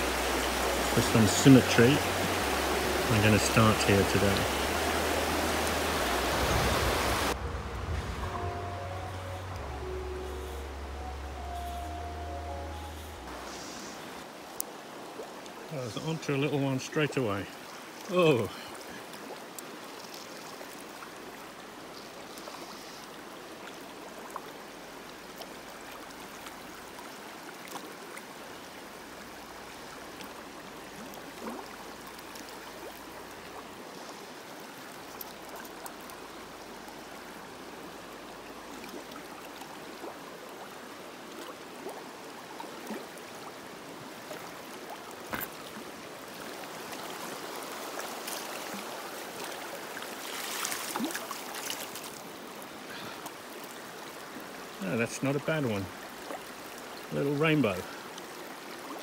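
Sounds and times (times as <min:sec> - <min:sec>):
river babbling over stones: 0:00.0 - 0:59.0.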